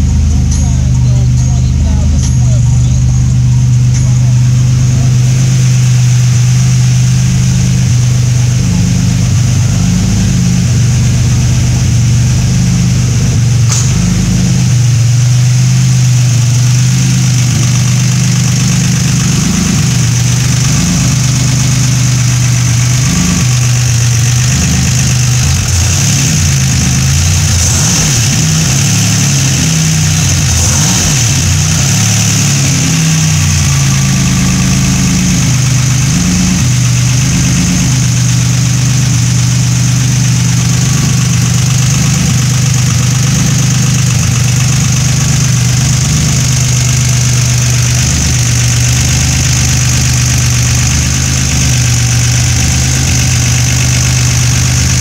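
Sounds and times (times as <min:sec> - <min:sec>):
car engine idling unevenly: 0:00.0 - 0:55.0.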